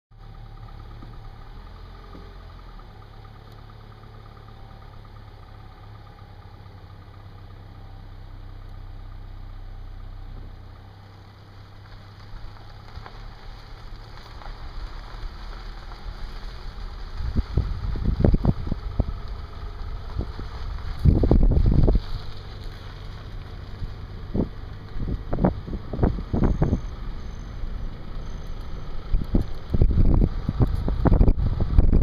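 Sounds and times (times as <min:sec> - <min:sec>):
car engine idling: 0:00.1 - 0:32.0
car rumbling with knocks: 0:00.2 - 0:07.8, 0:10.1 - 0:32.0.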